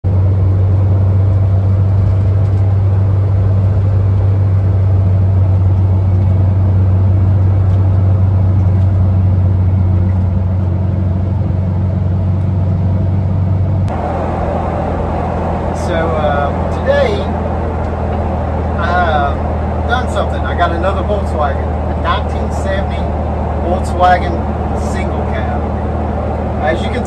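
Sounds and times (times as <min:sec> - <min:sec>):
car engine droning: 0:00.0 - 0:27.0
road noise: 0:00.0 - 0:27.0.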